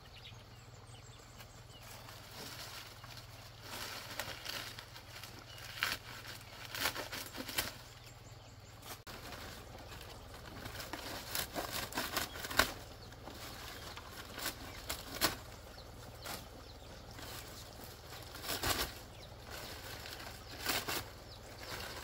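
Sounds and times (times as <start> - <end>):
dry leaves rustling: 0.8 - 22.0.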